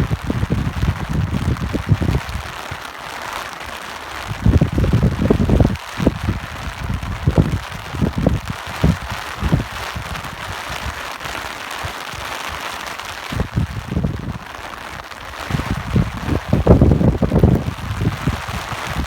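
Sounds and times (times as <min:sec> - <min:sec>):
wind buffeting microphone: 0:00.0 - 0:02.8, 0:04.1 - 0:19.0
rain hiss: 0:00.0 - 0:19.0.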